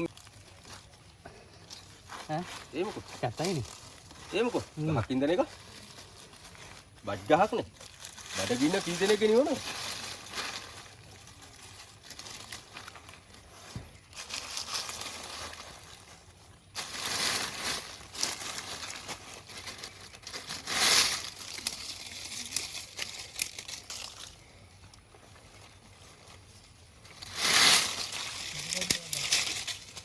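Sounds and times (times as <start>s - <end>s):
rustling and crackling: 0.0s - 30.0s.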